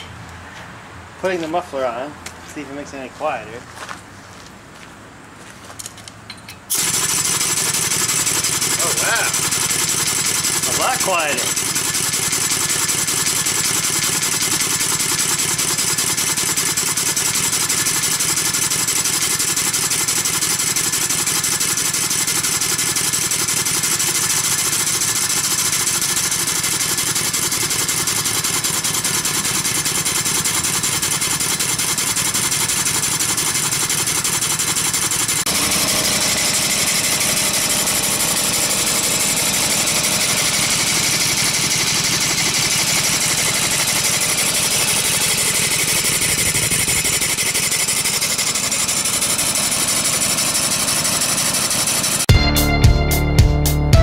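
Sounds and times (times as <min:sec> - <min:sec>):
small engine exhaust pulses: 0:06.7 - 0:52.3.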